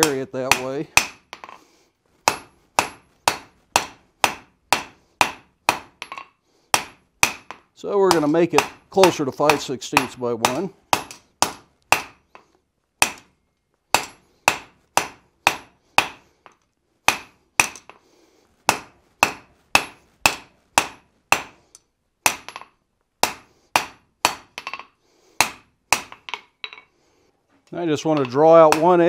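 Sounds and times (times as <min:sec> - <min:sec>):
hammer striking metal on an anvil: 0:00.0 - 0:01.5, 0:02.3 - 0:12.2, 0:13.0 - 0:18.0, 0:18.7 - 0:21.6, 0:22.2 - 0:26.8, 0:28.1 - 0:29.0.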